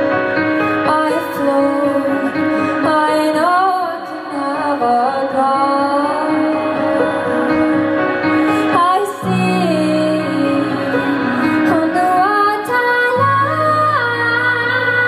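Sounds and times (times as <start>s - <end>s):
sustained backing chords: 0.0s - 15.0s
woman singing live: 0.7s - 15.0s.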